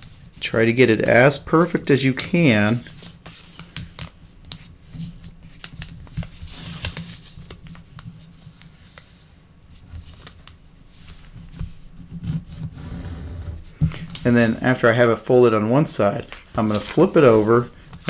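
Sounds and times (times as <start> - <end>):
paper crinkling and creasing: 0.0 - 12.7, 16.2 - 18.0.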